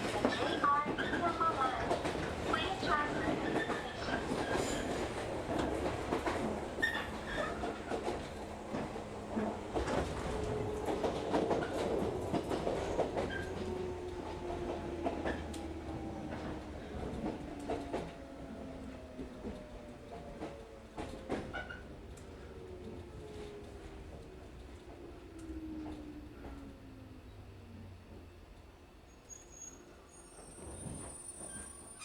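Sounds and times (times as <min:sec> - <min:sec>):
train running on track: 0:00.0 - 0:32.0.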